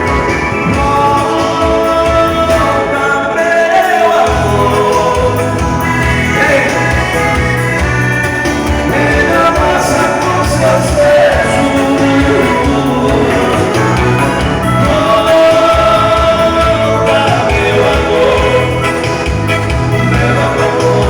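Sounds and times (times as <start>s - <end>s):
band music with bass beat: 0.0s - 21.0s.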